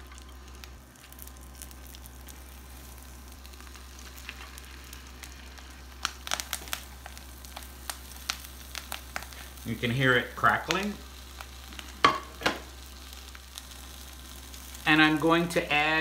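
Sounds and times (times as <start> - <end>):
food sizzling on a griddle: 0.0 - 16.0
oil crackling and popping: 0.0 - 16.0.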